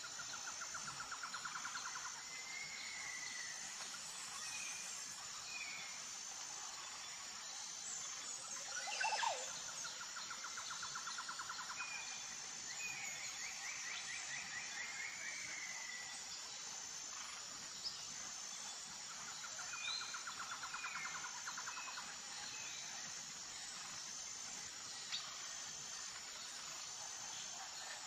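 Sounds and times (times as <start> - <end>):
insect hiss: 0.0 - 28.0.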